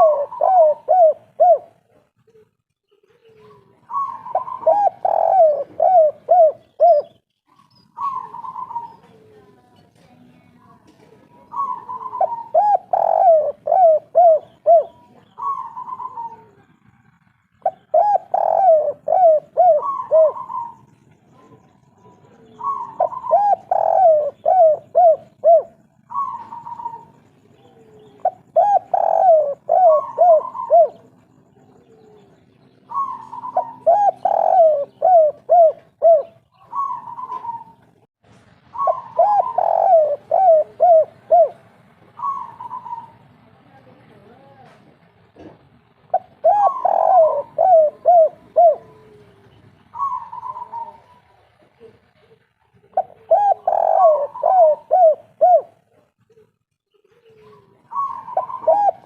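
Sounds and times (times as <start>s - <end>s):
dove cooing: 0.0s - 9.7s, 11.0s - 38.1s, 38.7s - 43.5s, 45.4s - 59.0s.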